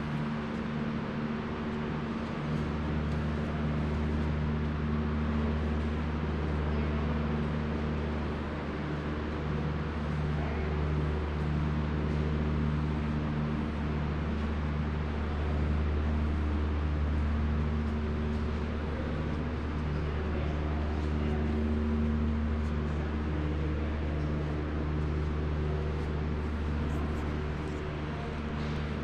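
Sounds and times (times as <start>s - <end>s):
low droning hum: 0.0s - 29.0s.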